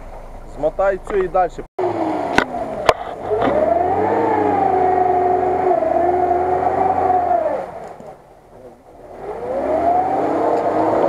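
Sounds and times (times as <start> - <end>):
car engine revving high: 1.8 - 11.0
engine whining tone: 1.8 - 11.0.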